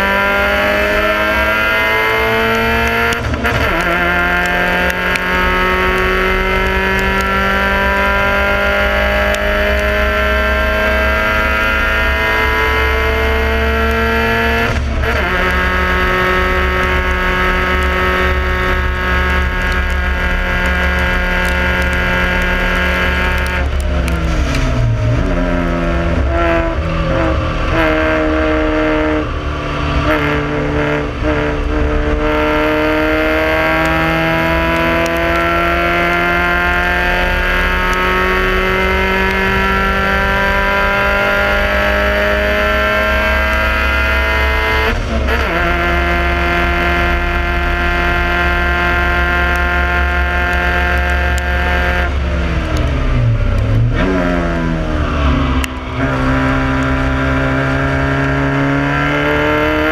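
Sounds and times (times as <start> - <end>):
car engine revving under load: 0.0 - 59.9.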